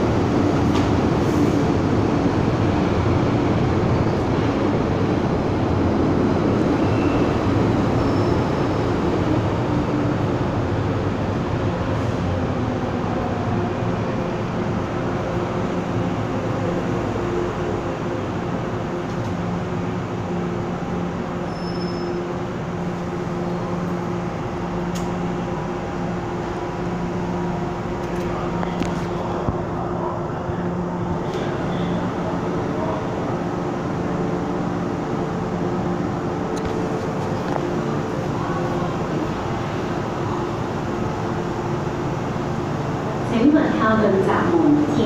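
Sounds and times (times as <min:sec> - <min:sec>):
train equipment humming: 0:00.0 - 0:45.0.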